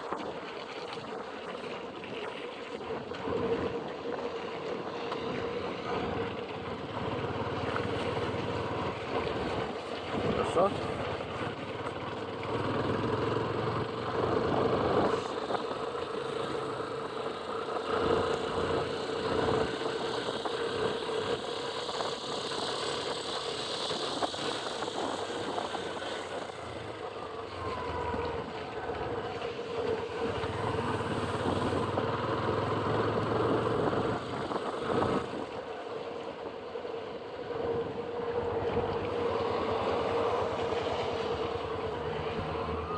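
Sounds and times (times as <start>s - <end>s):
motorcycle engine hum: 0.0s - 42.9s
wind and road noise: 0.0s - 42.9s.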